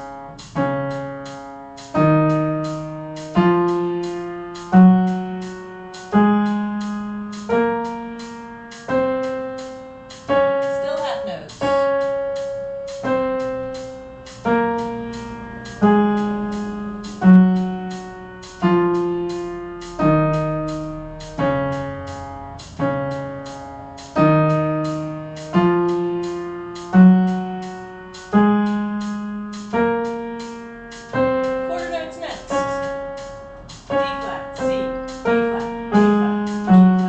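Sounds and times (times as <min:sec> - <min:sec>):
piano playing a scale: 0:00.0 - 0:37.0.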